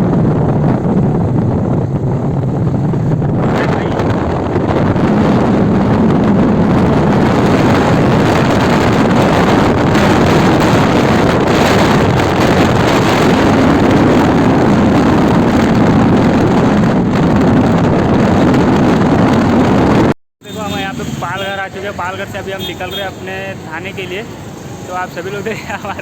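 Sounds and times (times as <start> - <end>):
wind rushing on microphone: 0.0 - 26.0.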